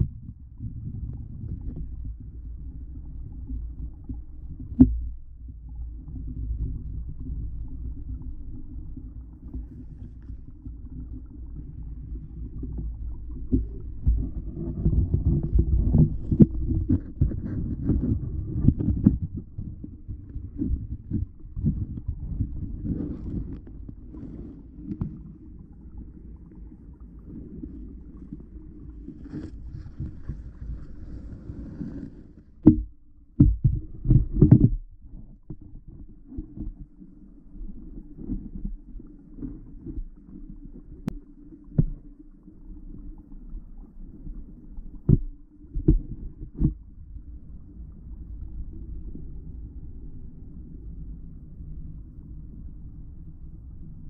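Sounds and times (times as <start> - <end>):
muffled underwater rumble: 0.0 - 54.0.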